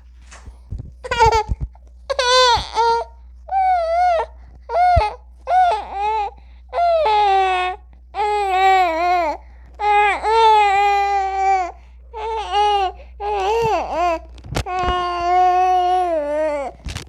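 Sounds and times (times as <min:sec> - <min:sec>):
newborn baby crying: 0:01.0 - 0:01.5, 0:02.1 - 0:16.9.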